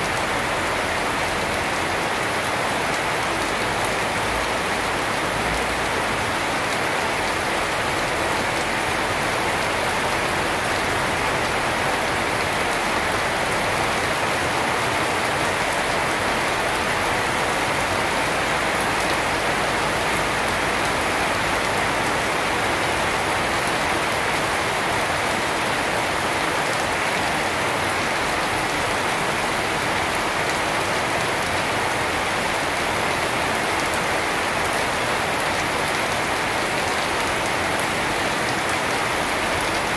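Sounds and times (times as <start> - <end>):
rain on foliage and pavement: 0.0 - 39.9.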